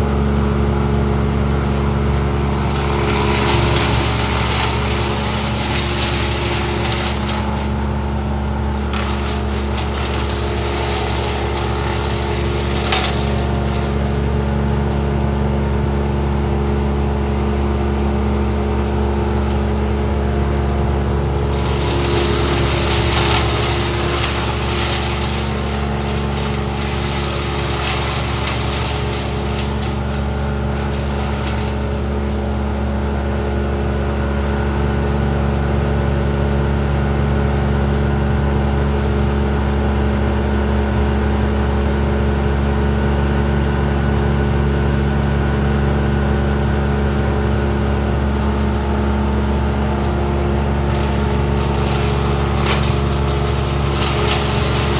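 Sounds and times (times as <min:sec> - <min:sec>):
rushing noise of material fed: 0:00.0 - 0:37.1, 0:41.9 - 0:54.9
wood chipper engine drone: 0:00.0 - 0:54.9.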